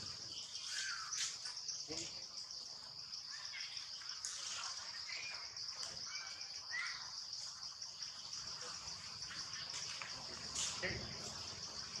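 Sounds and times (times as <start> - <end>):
bird chirps: 0.0 - 10.0
insect chorus trilling: 0.0 - 12.0.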